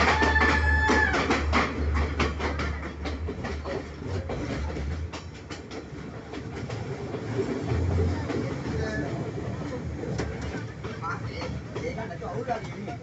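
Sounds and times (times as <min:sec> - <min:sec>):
low train rumble: 0:00.0 - 0:13.0
train wheels clacking: 0:00.0 - 0:13.0.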